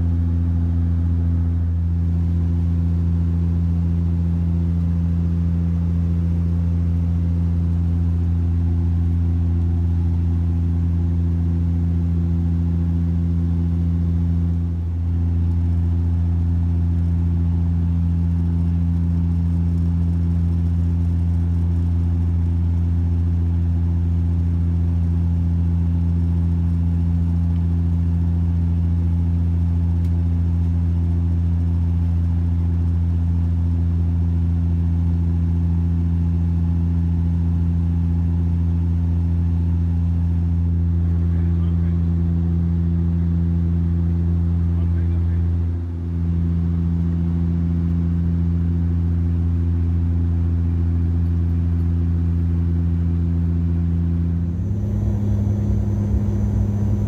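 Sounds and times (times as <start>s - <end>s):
turboprop engines droning in cabin: 0.0s - 57.0s.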